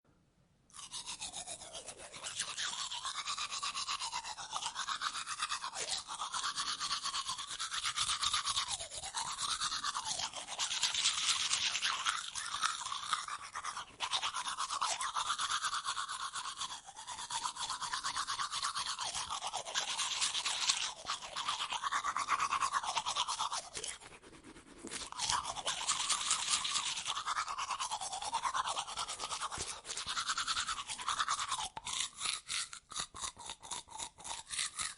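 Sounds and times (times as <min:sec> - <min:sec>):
toothbrush scrubbing teeth: 0:00.7 - 0:34.9.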